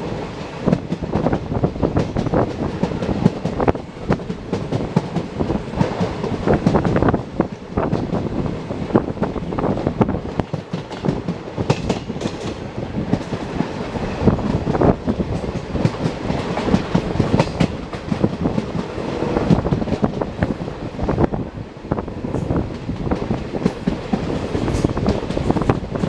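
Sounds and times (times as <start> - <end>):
train wheels clattering on rails: 0.0 - 26.0.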